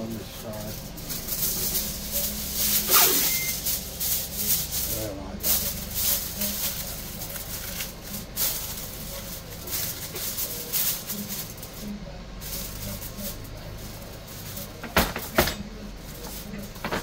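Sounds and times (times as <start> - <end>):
foil crinkling: 0.0 - 17.0.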